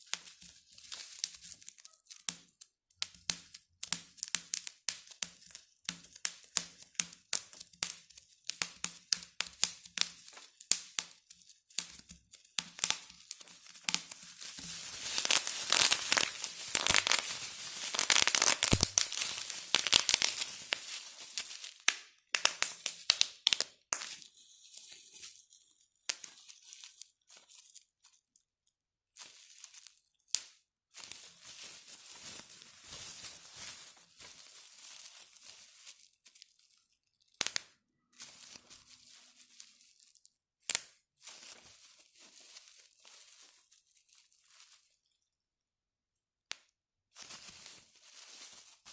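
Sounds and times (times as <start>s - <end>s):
bubble wrap popping: 0.0s - 25.4s, 26.0s - 28.2s, 29.1s - 45.2s, 46.5s - 48.9s
plastic crinkling: 0.0s - 28.3s, 29.2s - 30.3s, 30.9s - 37.6s, 38.2s - 40.3s, 41.2s - 45.2s, 47.2s - 48.9s.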